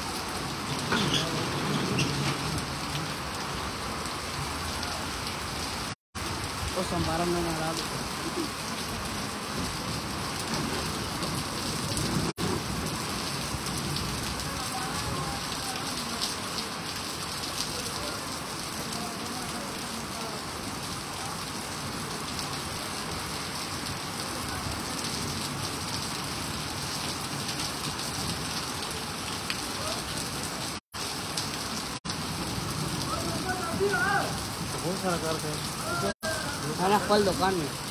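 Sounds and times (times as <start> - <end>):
heavy rain splashing into water: 0.0 - 37.9.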